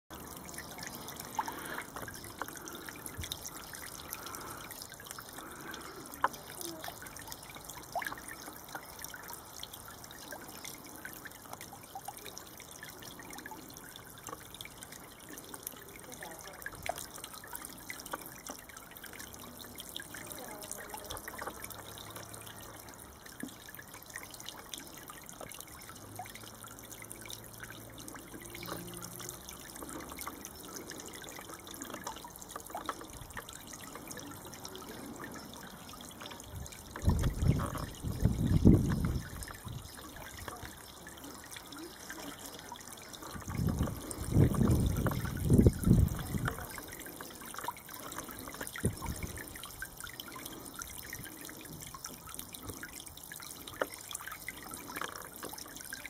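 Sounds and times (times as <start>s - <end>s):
fountain spray splashing into water: 0.1s - 56.0s.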